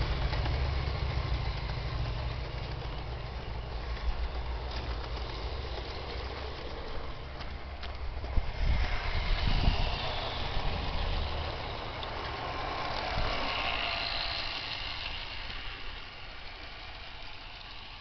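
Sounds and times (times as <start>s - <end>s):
model train wheels and motor rumbling: 0.0s - 18.0s.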